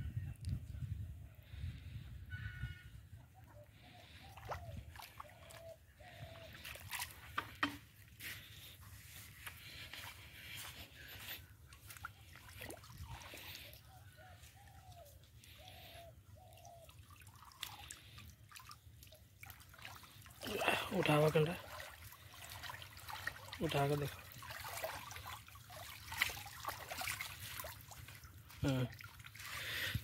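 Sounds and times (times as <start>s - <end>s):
small splashes: 3.8s - 8.8s, 9.4s - 30.0s
water dripping and trickling: 4.1s - 8.8s, 9.5s - 30.0s.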